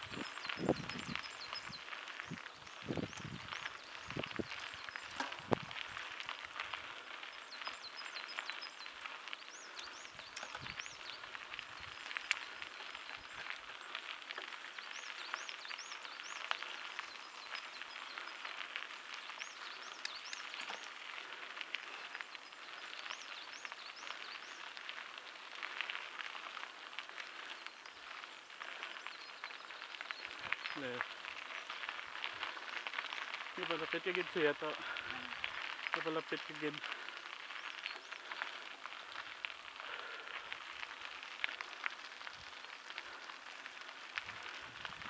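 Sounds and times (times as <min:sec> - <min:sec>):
footsteps crunching on trail: 0:00.0 - 0:45.0.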